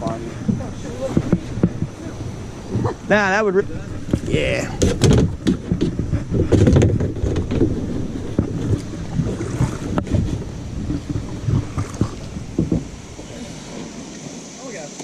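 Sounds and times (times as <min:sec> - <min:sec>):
kayak hull and paddle knocks: 0:00.0 - 0:15.0
wind rumbling on microphone: 0:00.0 - 0:15.0.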